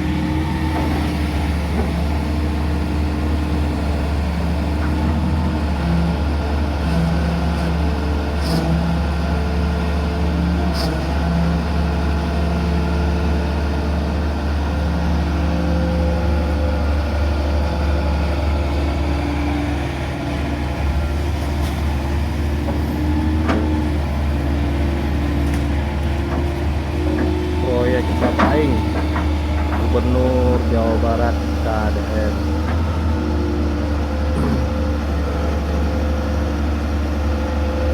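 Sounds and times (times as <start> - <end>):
excavator diesel engine working: 0.0 - 37.9.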